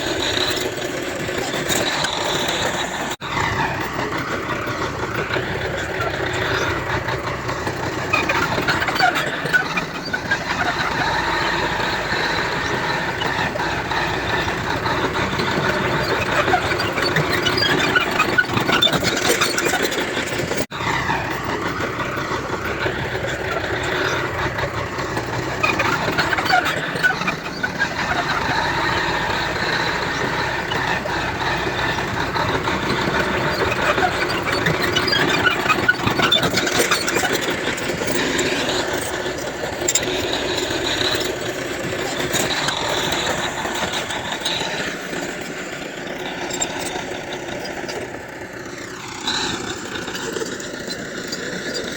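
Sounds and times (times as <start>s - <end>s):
bulldozer diesel engine under load: 0.0s - 51.9s
metallic squealing of machinery: 0.0s - 51.9s.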